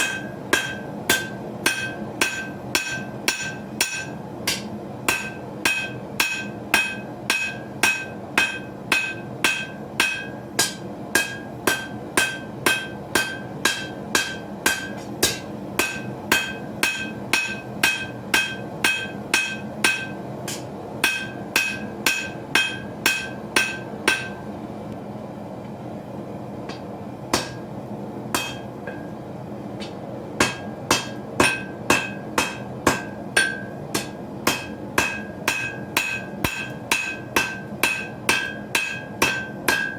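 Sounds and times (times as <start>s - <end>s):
hammer ringing on anvil: 0.0s - 24.4s, 28.4s - 29.1s, 30.4s - 39.9s.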